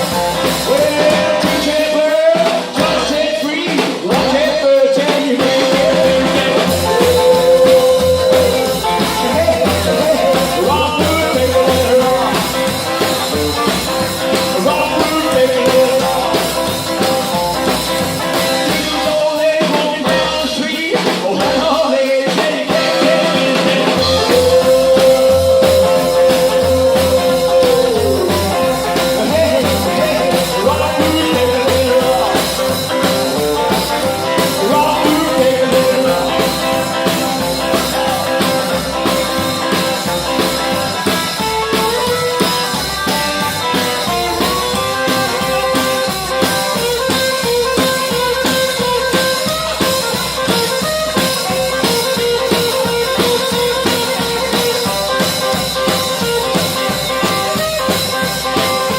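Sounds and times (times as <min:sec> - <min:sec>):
bass: 0:00.0 - 0:58.9
drum beat: 0:00.0 - 0:58.9.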